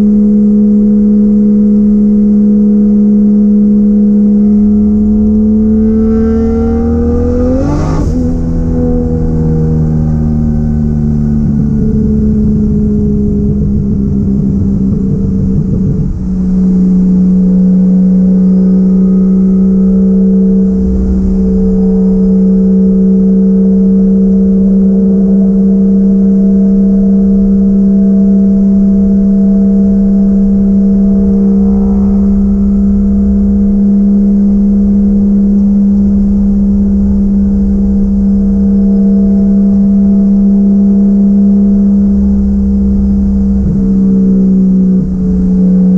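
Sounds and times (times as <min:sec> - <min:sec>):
car engine droning: 0:00.0 - 0:45.9.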